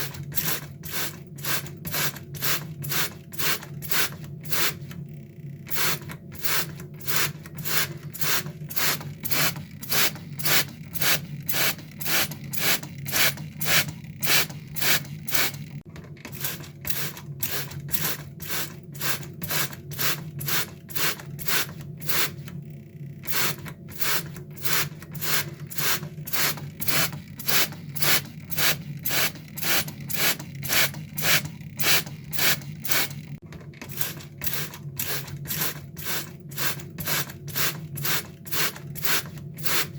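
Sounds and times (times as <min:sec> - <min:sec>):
water spray squirting: 0:00.0 - 0:04.9, 0:05.7 - 0:15.6, 0:16.4 - 0:22.4, 0:23.3 - 0:33.3, 0:33.9 - 0:39.9.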